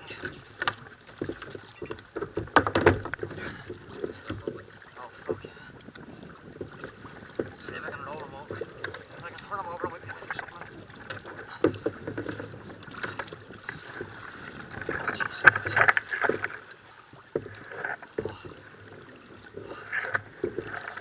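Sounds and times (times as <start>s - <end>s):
knocks against boat: 0.0s - 5.6s, 6.6s - 16.6s, 17.3s - 18.6s
water splashing against kayak: 0.0s - 21.0s.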